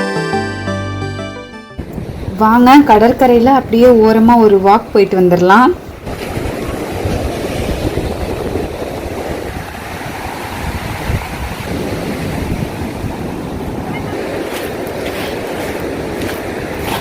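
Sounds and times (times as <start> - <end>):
surf rushing on beach: 1.8 - 17.0
wind buffeting microphone: 1.8 - 17.0.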